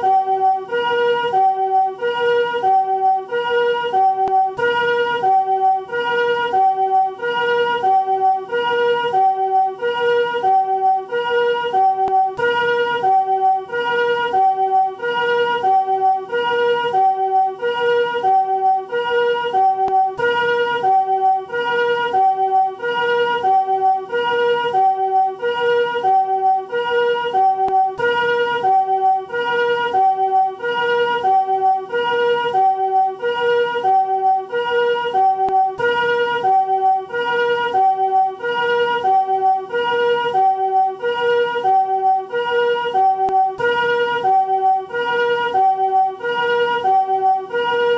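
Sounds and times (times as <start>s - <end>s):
ambulance two-tone chord siren: 0.0s - 47.9s.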